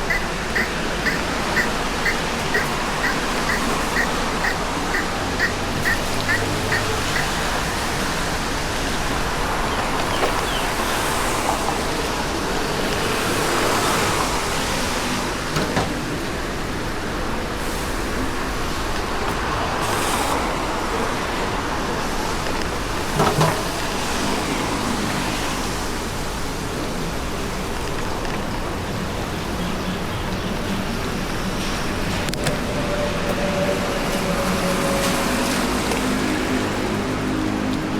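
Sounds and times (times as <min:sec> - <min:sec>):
traffic on wet roads: 0:00.0 - 0:37.9
vehicles passing: 0:00.0 - 0:37.9.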